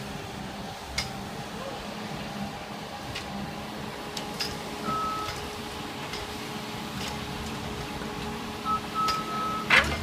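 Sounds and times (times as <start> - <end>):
loader engine running: 0.0 - 10.0.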